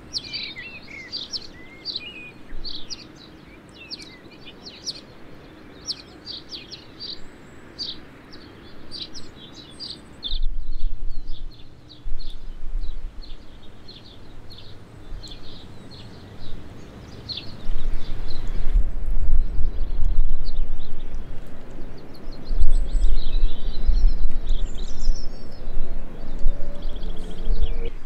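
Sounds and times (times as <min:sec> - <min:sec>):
small birds chirping: 0:00.0 - 0:28.0
wind buffeting microphone: 0:03.8 - 0:28.0.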